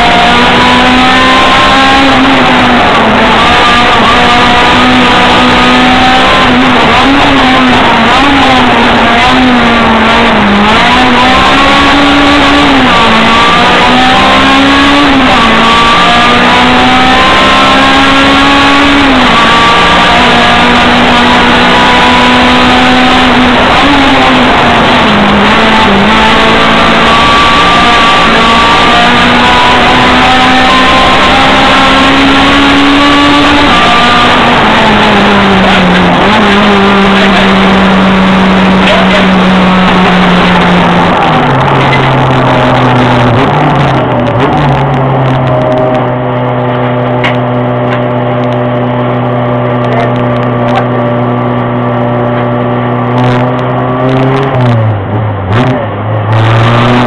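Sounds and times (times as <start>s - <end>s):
race car engine from inside cabin: 0.0s - 57.0s.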